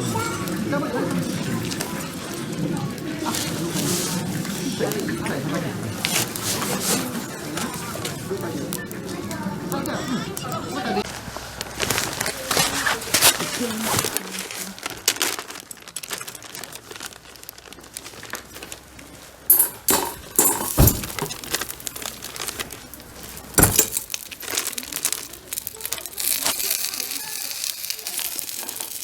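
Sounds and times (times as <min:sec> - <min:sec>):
crinkling and rustling handling: 0:00.0 - 0:29.0.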